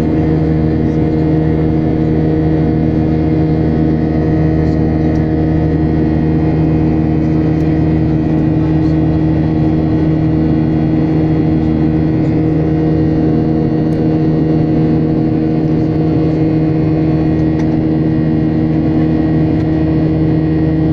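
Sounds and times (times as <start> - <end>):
jet engine drone in cabin: 0.0 - 20.9.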